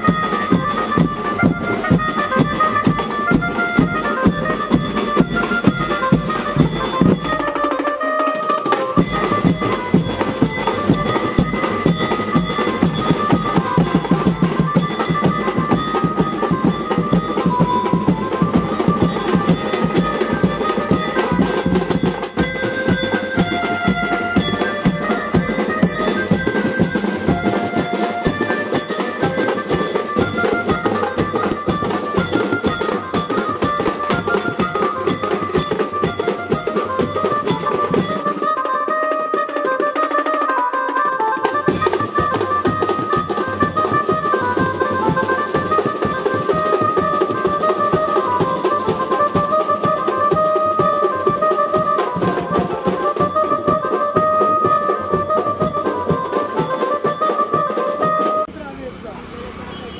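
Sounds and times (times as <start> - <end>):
hand drums and drum kit beating: 0.0 - 58.6.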